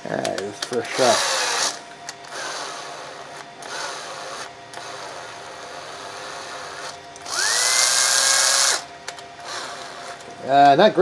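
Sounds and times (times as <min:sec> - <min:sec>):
cordless drill motor whine: 0:00.6 - 0:11.0.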